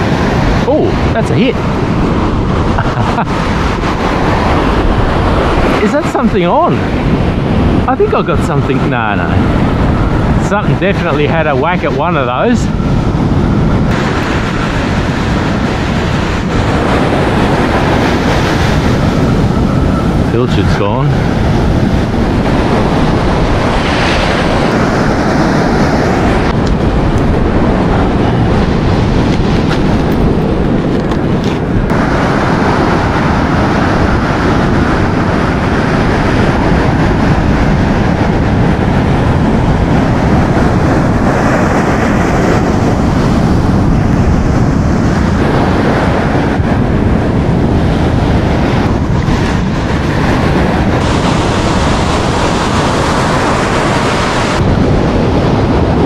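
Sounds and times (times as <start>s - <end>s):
ocean surf breaking: 0.0s - 56.0s
wind buffeting microphone: 0.0s - 56.0s.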